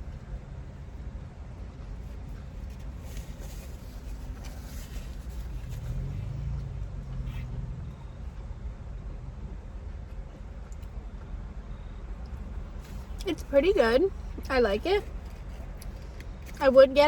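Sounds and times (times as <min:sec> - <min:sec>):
vehicle rumble inside car: 0:00.0 - 0:17.0.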